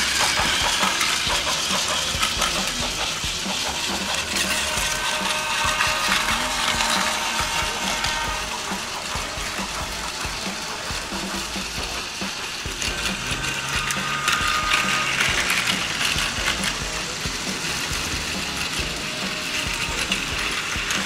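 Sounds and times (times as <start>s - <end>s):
fast ticking clatter: 0.0s - 21.0s
toy train motors whirring: 0.0s - 21.0s.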